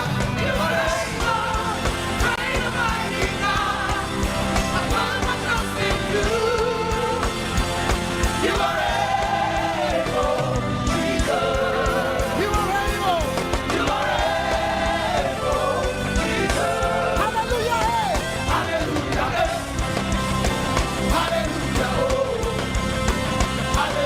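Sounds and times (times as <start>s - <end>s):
band playing a steady beat: 0.0s - 24.0s
voices singing: 0.0s - 24.0s.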